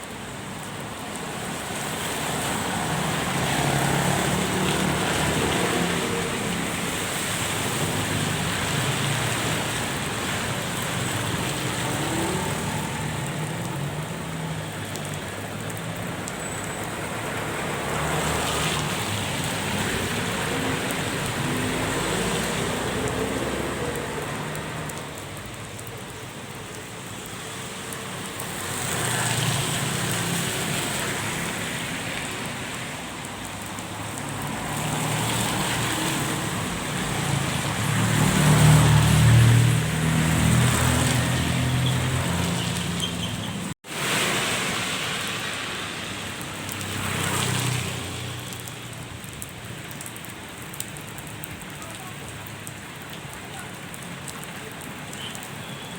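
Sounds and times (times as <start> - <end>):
rain falling: 0.0 - 55.9
vehicles passing on wet road: 0.0 - 55.9.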